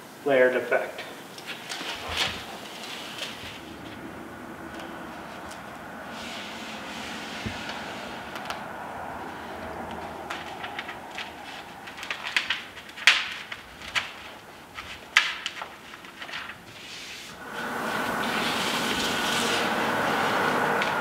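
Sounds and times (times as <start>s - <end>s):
housewrap crackling and rustling: 1.2s - 21.0s
steady rushing noise: 1.2s - 21.0s.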